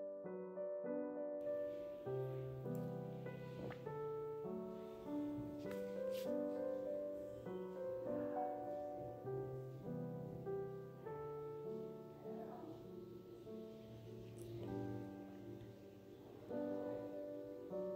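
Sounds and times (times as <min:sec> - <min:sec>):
soft piano music: 0:00.0 - 0:17.9.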